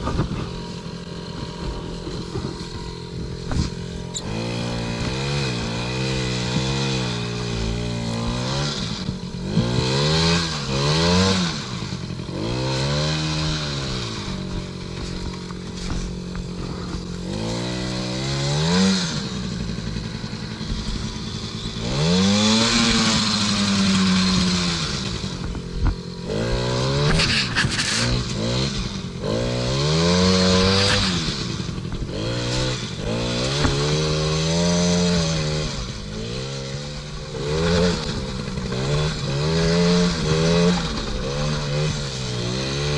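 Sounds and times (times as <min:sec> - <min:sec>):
engine clatter: 0:00.0 - 0:42.9
two-stroke engine revving: 0:00.0 - 0:42.9.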